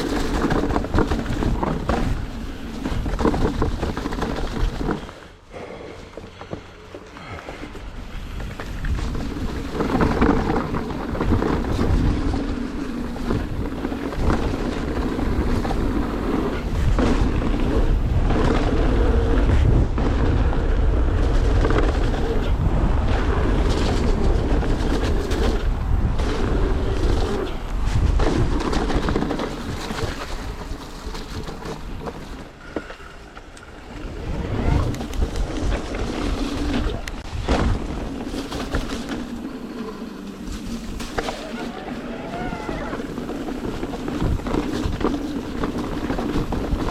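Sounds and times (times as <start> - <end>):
bike tyres rumbling over ground: 0.0 - 46.9
disc brakes howling: 0.0 - 46.9
wind buffeting microphone: 7.2 - 46.9.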